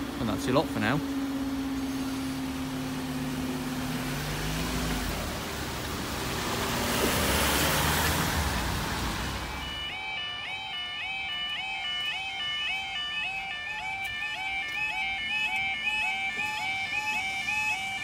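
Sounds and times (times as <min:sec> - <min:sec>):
road traffic moving: 0:00.0 - 0:18.0.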